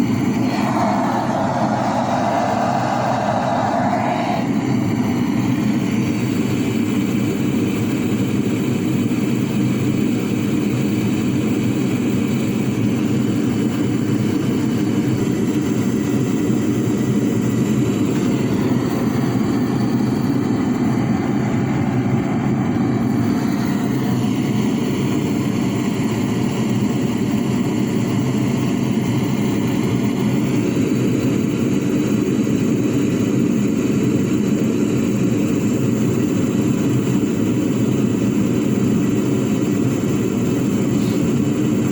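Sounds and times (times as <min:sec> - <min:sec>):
furnace roaring air and flame: 0:00.0 - 0:41.9.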